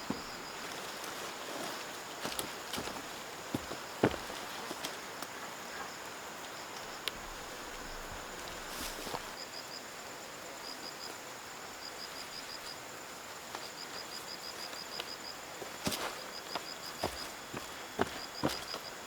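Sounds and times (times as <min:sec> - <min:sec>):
insect or bird chirping: 0:00.0 - 0:19.0.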